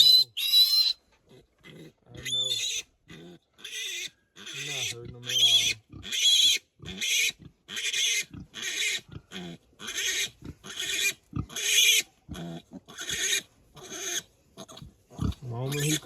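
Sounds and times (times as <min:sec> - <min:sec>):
piglet screaming: 0:00.0 - 0:01.0, 0:01.8 - 0:16.0.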